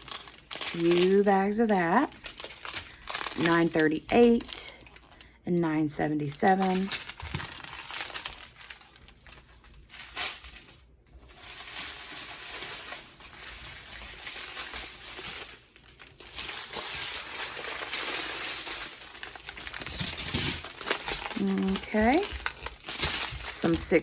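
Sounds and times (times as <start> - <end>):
plastic bags crinkling: 0.0 - 5.4, 6.2 - 24.0.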